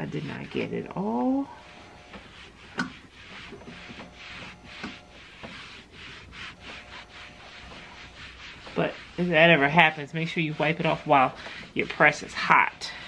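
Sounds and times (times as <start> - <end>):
cloth scrubbing metal plate: 0.0 - 13.0.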